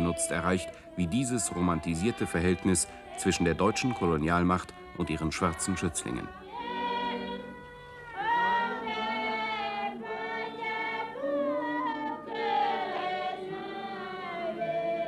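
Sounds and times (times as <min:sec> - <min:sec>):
group singing a hymn: 0:00.0 - 0:15.0.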